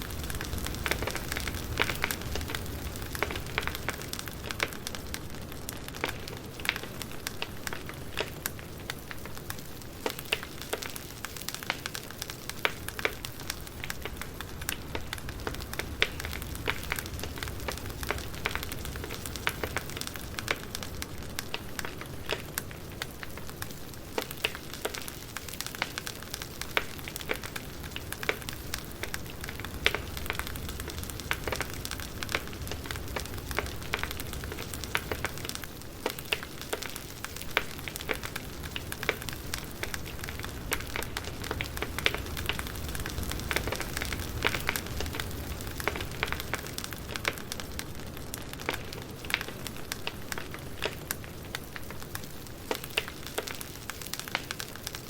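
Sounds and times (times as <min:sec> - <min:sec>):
pops and snaps of burning logs: 0:00.0 - 0:55.0
wood fire crackling: 0:00.0 - 0:55.0.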